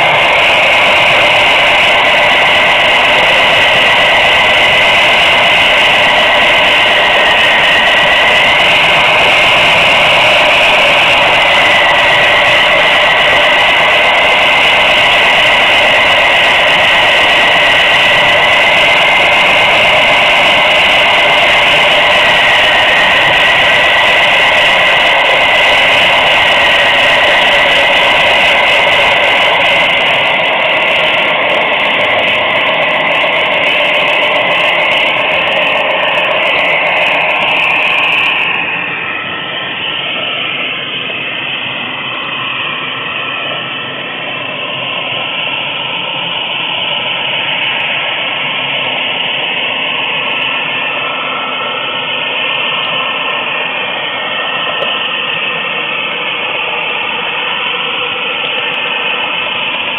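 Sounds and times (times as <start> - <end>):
high wavering whine: 0.0 - 59.9.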